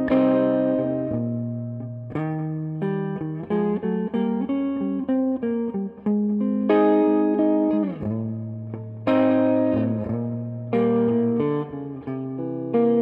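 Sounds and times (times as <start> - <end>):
electric guitar through amplifier: 0.0 - 13.0.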